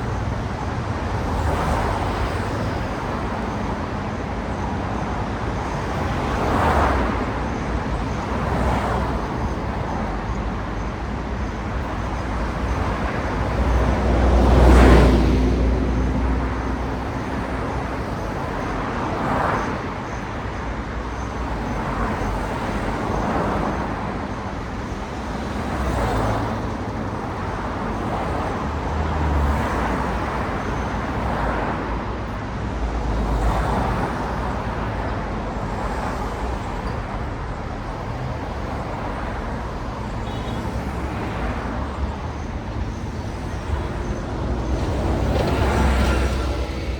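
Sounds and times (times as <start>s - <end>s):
cars passing: 0.0s - 46.9s
steady traffic hum: 0.0s - 46.9s.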